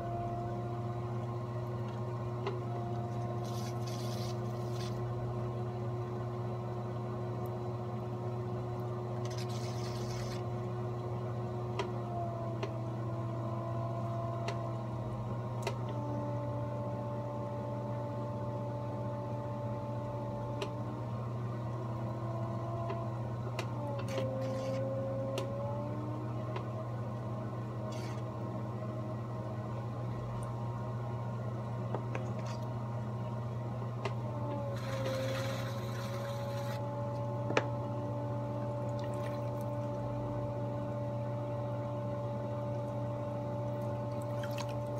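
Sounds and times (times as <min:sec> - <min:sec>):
potter's wheel motor hum: 0:00.0 - 0:44.9.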